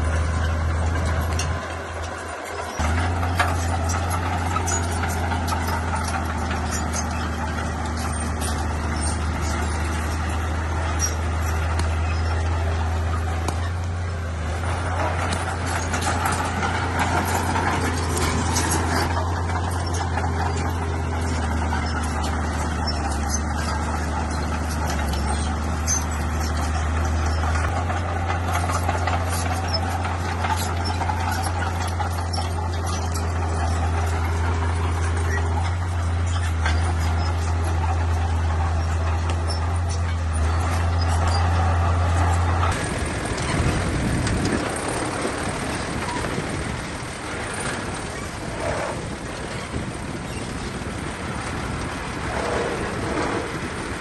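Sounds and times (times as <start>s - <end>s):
bulldozer diesel engine droning: 0.0s - 54.0s
track clanks and squeals: 0.0s - 54.0s.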